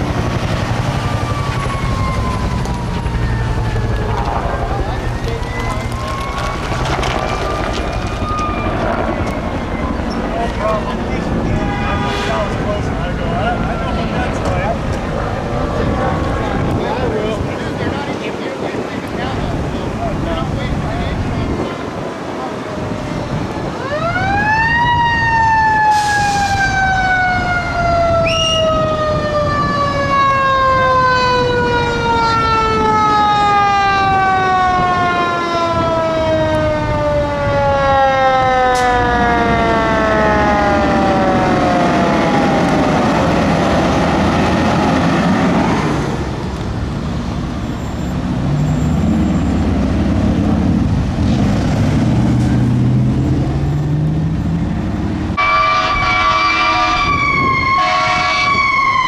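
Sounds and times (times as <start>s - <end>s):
heavy engine rumbling: 0.0s - 57.8s.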